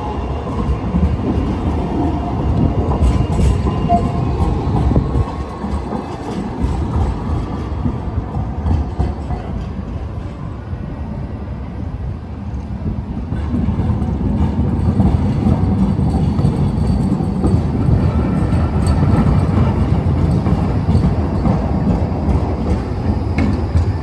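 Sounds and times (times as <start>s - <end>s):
tram rumbling on track: 0.0s - 24.0s.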